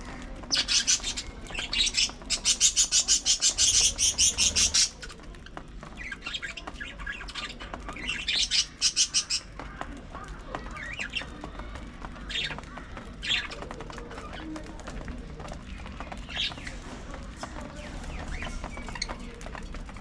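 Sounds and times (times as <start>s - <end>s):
budgerigars chirping and squawking: 0.0s - 20.0s.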